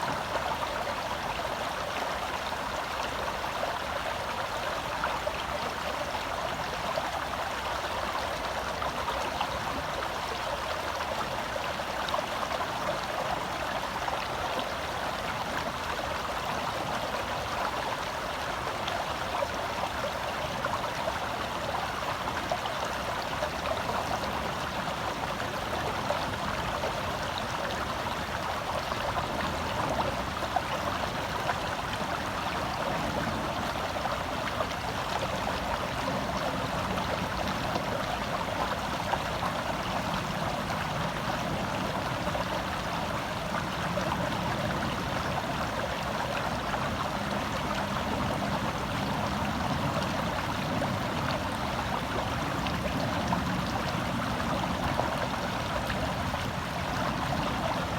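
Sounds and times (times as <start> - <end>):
stream babbling over rocks: 0.0 - 57.9.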